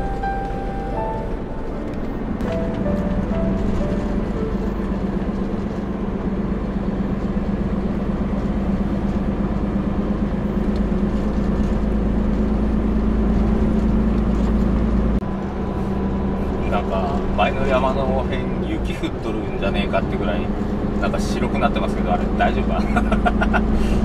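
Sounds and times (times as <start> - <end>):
road noise: 0.0 - 24.0
truck diesel engine drone: 0.0 - 24.0.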